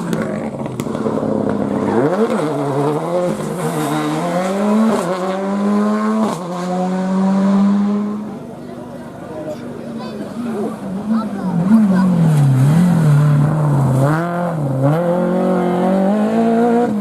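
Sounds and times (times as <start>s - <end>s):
rally car engine accelerating: 0.0s - 9.0s, 9.8s - 17.0s.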